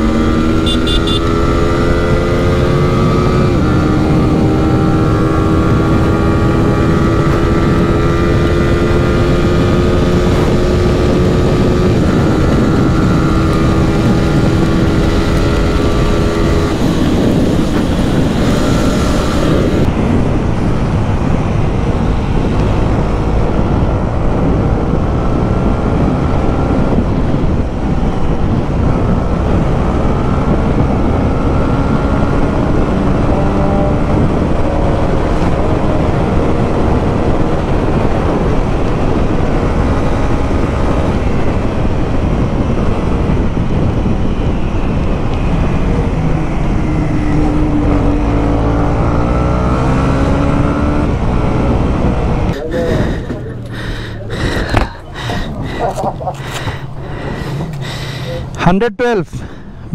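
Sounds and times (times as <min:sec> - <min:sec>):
motorcycle engine revving: 0:00.0 - 0:21.1, 0:21.7 - 0:58.6
wind rush and road noise: 0:00.0 - 0:59.9.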